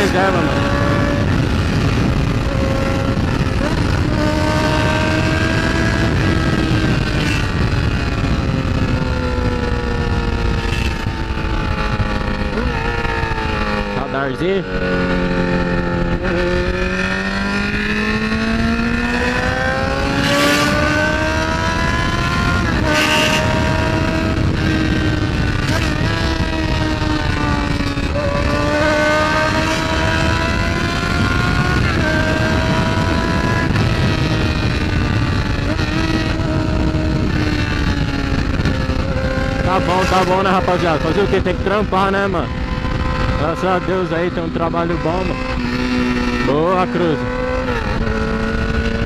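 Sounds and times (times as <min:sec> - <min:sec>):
motorcycle engine accelerating: 0:00.0 - 0:49.0
wind rushing: 0:00.0 - 0:49.0.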